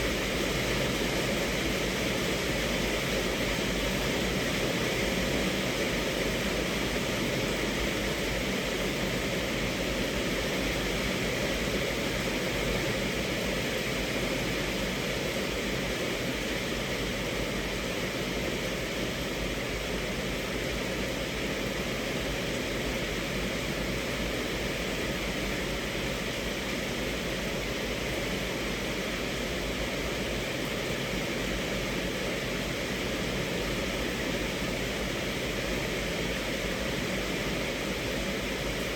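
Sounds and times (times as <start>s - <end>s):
rain on a car roof: 0.0s - 38.9s.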